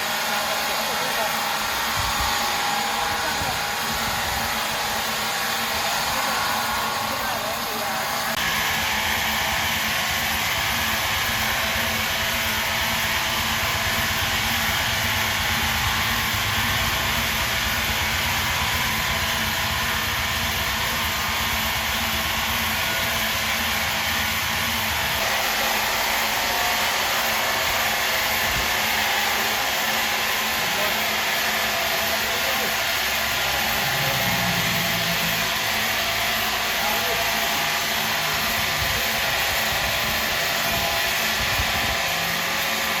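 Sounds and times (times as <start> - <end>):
heavy machinery running: 0.0 - 43.0.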